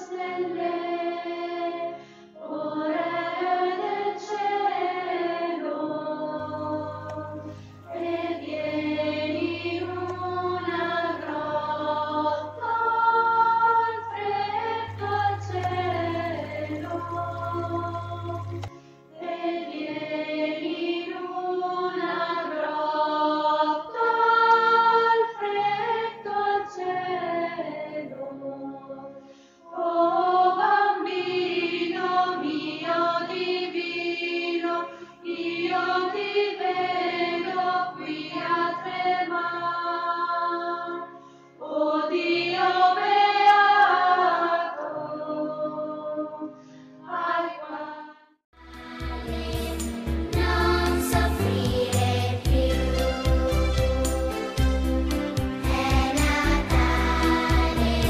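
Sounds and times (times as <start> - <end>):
voices singing slow melody: 0.0 - 58.0.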